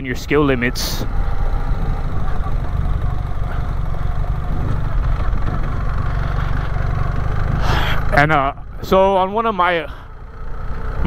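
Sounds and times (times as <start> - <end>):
motorcycle engine low rumble: 0.0 - 11.0.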